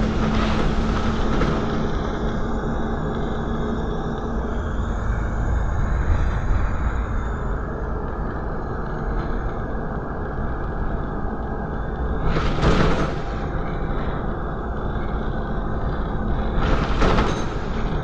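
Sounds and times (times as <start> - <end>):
diesel bus engine rumble: 0.0 - 18.0
road noise: 0.0 - 18.0.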